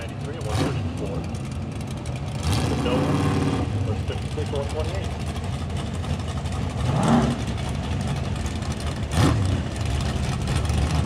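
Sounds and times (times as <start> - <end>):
drag-race cars idling: 0.0 - 11.0
engine throttle blips: 0.0 - 11.0.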